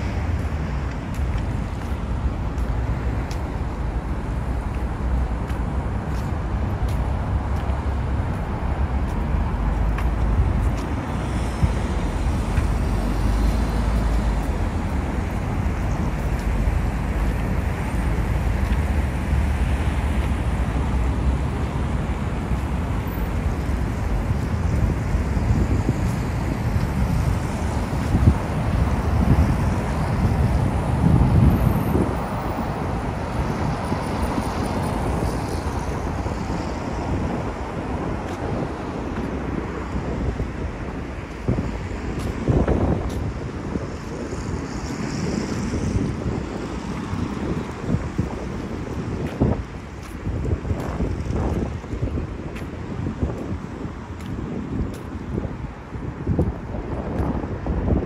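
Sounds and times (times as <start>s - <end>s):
cars passing: 0.0s - 58.0s
city road traffic: 0.0s - 58.0s.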